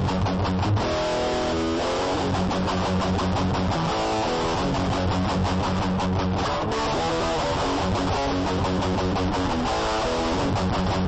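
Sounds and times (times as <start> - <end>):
bass line: 0.0 - 11.0
strummed guitar: 0.0 - 11.0.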